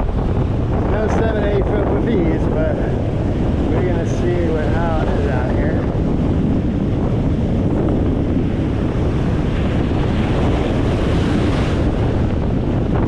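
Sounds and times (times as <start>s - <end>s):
surf breaking: 0.0s - 13.0s
wind buffeting microphone: 0.0s - 13.0s.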